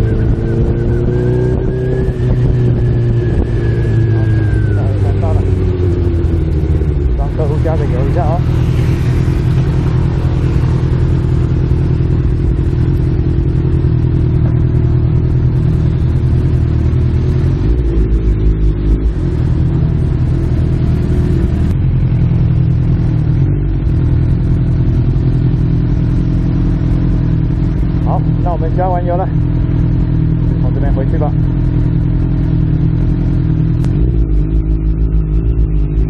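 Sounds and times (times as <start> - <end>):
heavy low rumble: 0.0 - 36.0
motorcycle engine running: 0.0 - 36.0.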